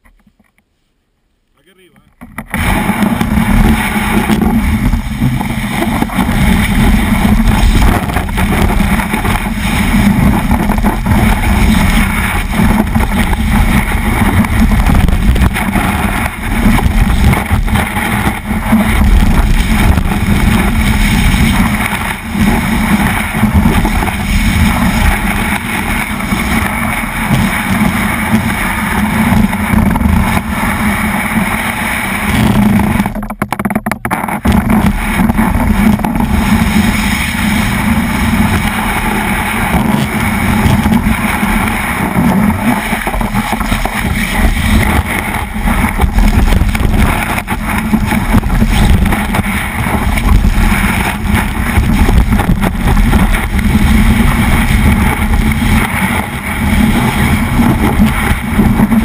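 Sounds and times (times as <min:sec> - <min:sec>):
wind buffeting microphone: 0:02.2 - 0:59.0
snowboard sliding on snow: 0:02.4 - 0:59.0.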